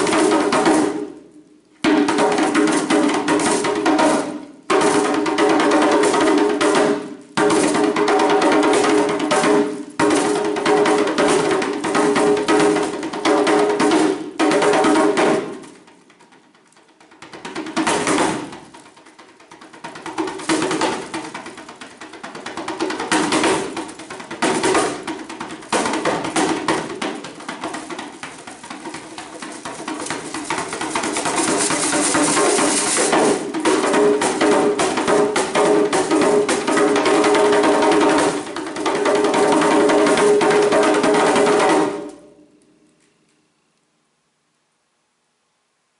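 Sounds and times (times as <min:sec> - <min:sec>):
djembe hand drumming: 0:00.0 - 0:01.2, 0:01.8 - 0:42.3.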